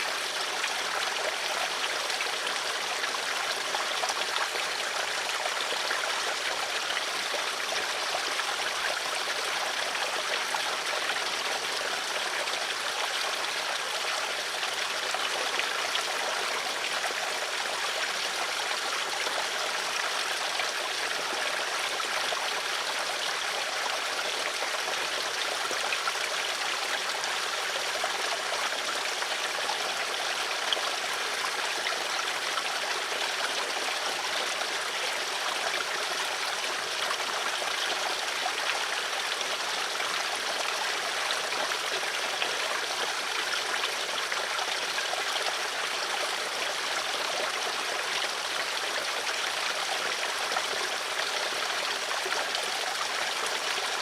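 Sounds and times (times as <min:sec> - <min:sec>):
stream burbling: 0:00.0 - 0:54.0.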